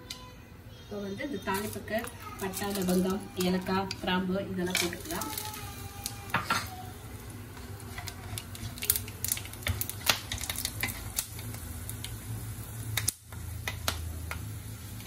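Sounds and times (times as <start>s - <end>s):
spices crackling in hot oil: 1.1s - 15.0s.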